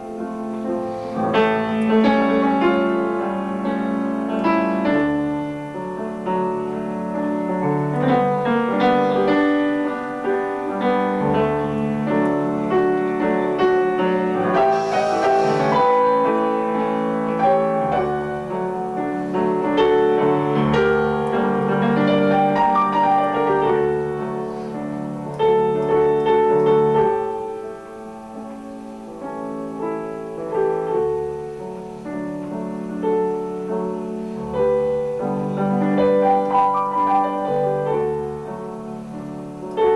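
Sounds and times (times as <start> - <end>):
piano melody over chords: 0.0 - 39.9.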